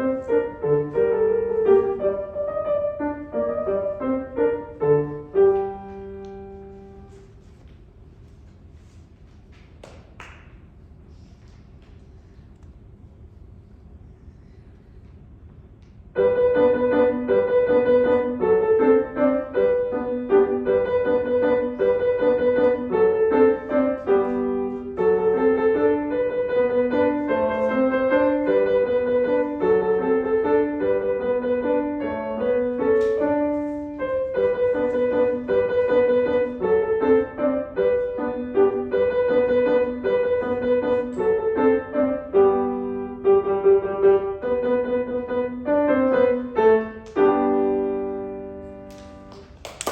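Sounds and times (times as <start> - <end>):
piano piece: 0.0 - 11.1, 16.0 - 49.9.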